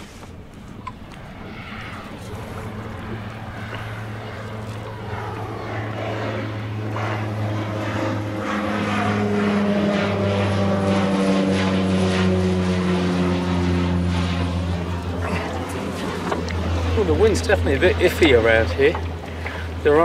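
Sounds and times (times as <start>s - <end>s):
propeller plane flying overhead: 0.0s - 20.0s.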